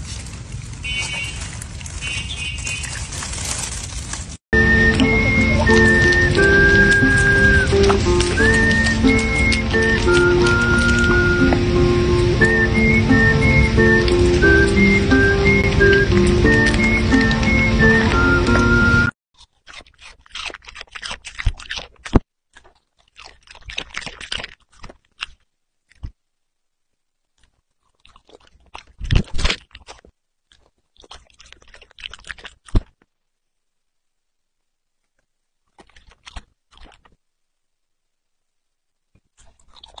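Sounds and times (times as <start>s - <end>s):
puppy chewing fruit: 0.0s - 26.2s, 27.3s - 33.2s, 35.0s - 37.3s, 39.2s - 40.0s.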